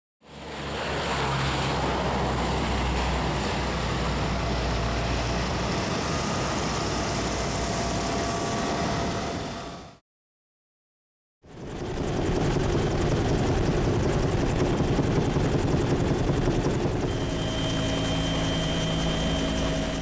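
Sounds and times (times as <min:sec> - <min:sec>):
aircraft engine humming: 0:00.5 - 0:09.9, 0:11.5 - 0:20.0.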